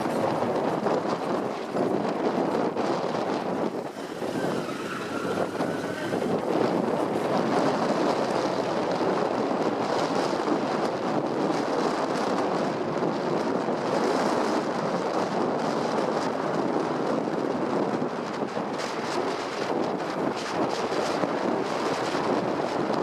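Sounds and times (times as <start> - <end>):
road and vehicle noise: 0.0 - 23.0
wind on microphone: 0.0 - 23.0.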